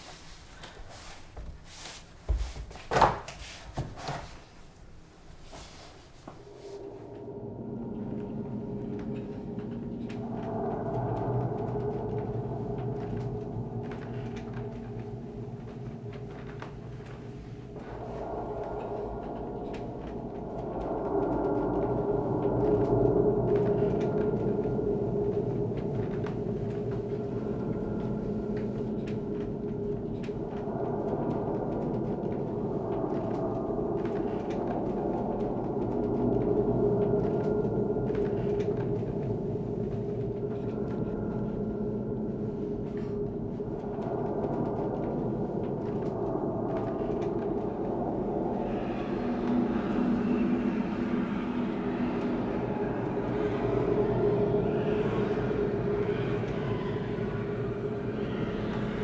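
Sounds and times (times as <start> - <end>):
eerie ambient drone: 4.8 - 59.0.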